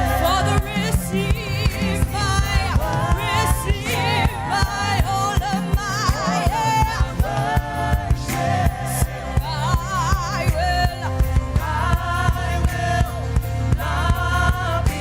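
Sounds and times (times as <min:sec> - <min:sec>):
band with bass and drums: 0:00.0 - 0:15.0
person singing with vibrato: 0:00.0 - 0:15.0.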